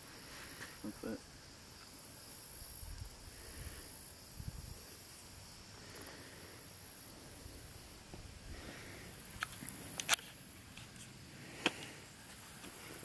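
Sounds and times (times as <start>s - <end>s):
insect chorus with crickets: 0.0s - 13.0s.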